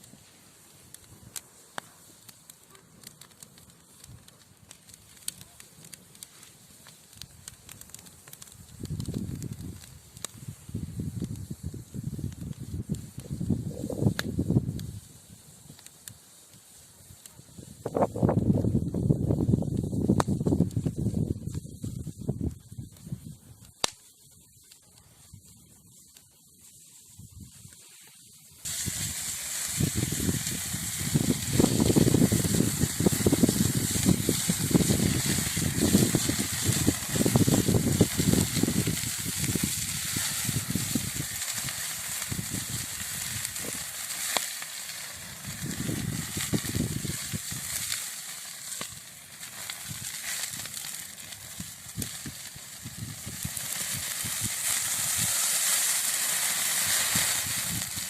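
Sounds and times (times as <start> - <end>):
fire hissing: 0.0 - 58.0
logs crackling and popping: 0.0 - 58.0
low rushing of fire: 0.0 - 58.0.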